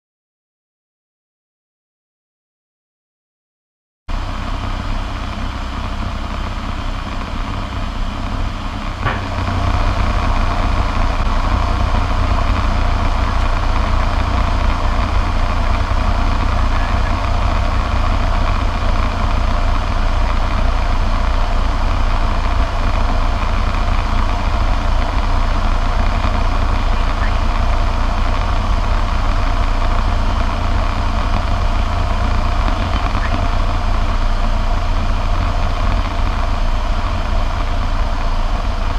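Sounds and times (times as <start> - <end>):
turboprop engine and propeller drone: 4.1 - 38.9.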